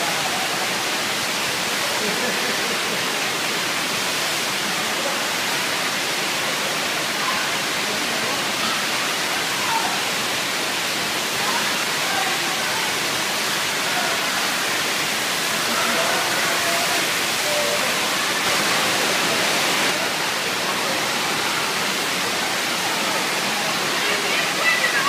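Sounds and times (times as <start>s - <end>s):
pumped water rushing over ramp: 0.0s - 25.0s.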